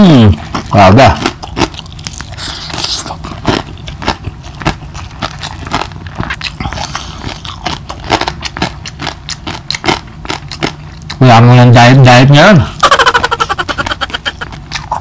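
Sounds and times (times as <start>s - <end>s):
close chewing with lip-smacking: 0.4s - 11.3s, 13.8s - 15.0s.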